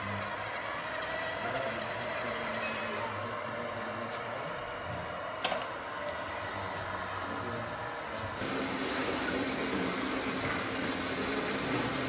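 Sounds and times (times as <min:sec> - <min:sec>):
model trucks mechanical whir: 0:00.0 - 0:12.0.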